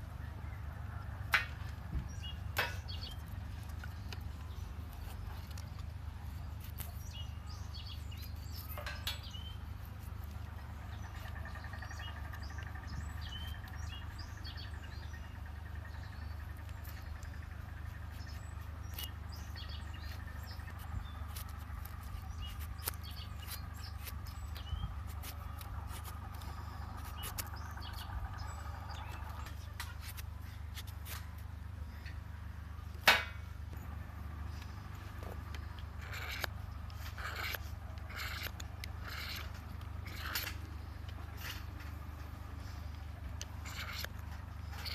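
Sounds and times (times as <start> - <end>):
birds chirping: 0.0 - 44.9
steady low rumble: 0.0 - 44.9.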